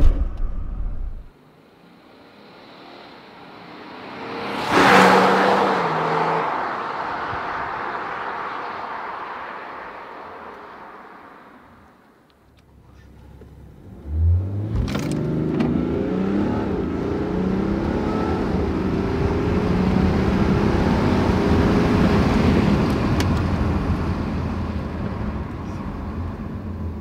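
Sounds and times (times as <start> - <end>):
car engine accelerating hard: 2.2 - 11.4, 12.8 - 27.0.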